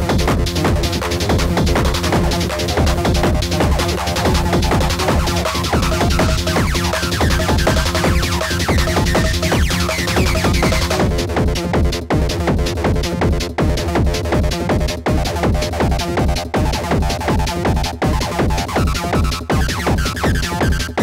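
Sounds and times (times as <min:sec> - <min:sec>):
acid techno music: 0:00.0 - 0:21.0.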